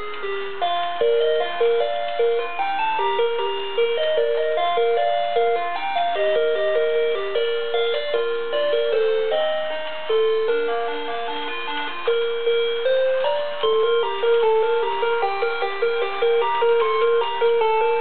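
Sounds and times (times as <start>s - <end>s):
toy electronic chime melody: 0.0s - 18.0s.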